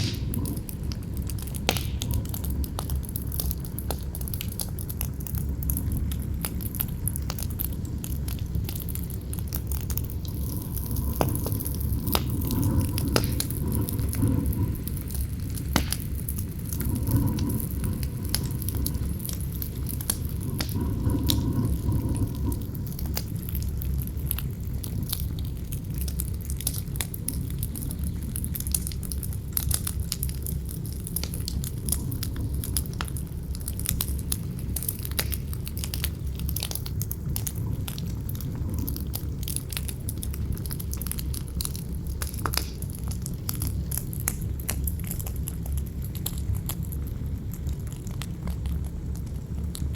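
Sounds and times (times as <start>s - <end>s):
campfire wood crackling: 0.0s - 49.9s
wind rumble: 0.0s - 49.9s.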